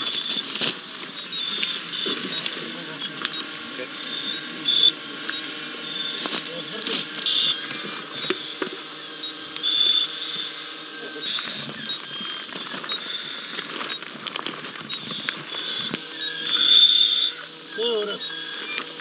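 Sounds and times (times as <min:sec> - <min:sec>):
footsteps on loose stones: 0:00.0 - 0:10.6, 0:11.2 - 0:16.7
gas detector beeps: 0:00.0 - 0:19.0.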